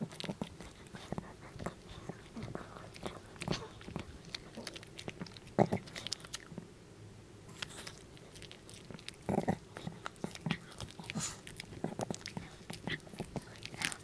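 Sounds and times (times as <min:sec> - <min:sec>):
dog chewing and crunching bone: 0:00.0 - 0:06.7, 0:07.5 - 0:14.0.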